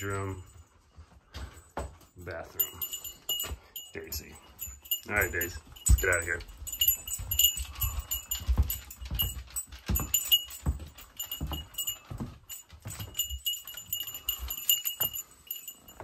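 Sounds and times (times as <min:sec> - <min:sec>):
light metallic jingling: 0:00.0 - 0:16.0.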